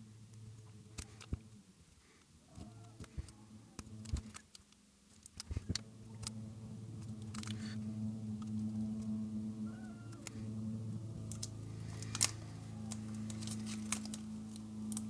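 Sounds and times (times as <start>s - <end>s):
steady low hum: 0.0s - 15.0s
tape clicking and crinkling: 0.3s - 9.4s, 11.2s - 15.0s.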